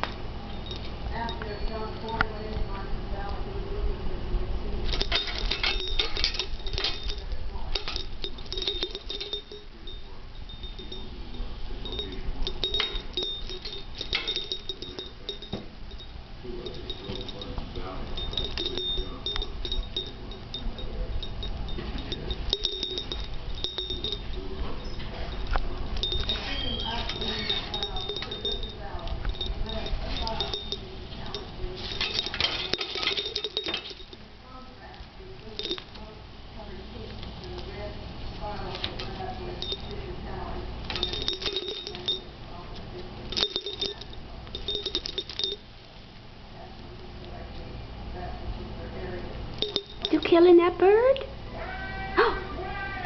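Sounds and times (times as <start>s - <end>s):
small metal bell jingling: 0.0s - 2.8s, 4.8s - 45.8s, 49.5s - 51.1s.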